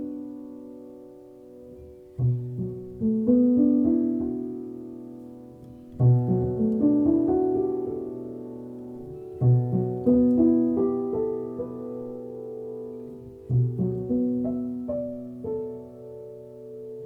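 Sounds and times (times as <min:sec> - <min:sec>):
slow piano notes and chords: 0:00.0 - 0:17.0.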